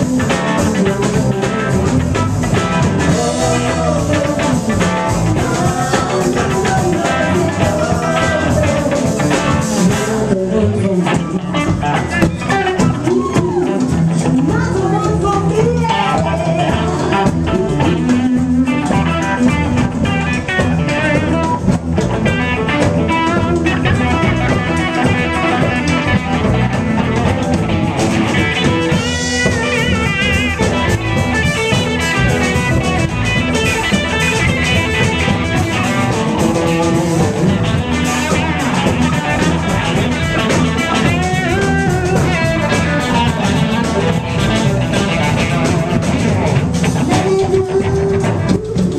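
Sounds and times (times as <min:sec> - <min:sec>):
drum kit: 0:00.0 - 0:48.9
electric guitar: 0:00.0 - 0:48.9.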